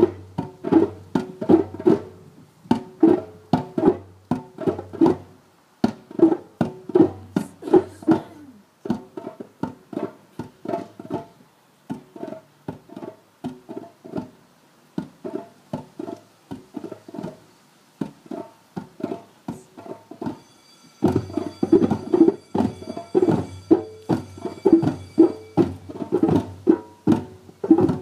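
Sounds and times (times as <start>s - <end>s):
djembe hand drums: 0.0s - 28.0s.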